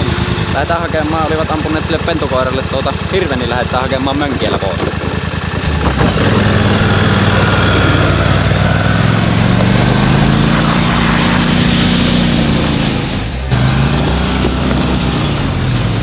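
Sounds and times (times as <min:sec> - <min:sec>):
atv engine pulling away: 0:00.0 - 0:16.0.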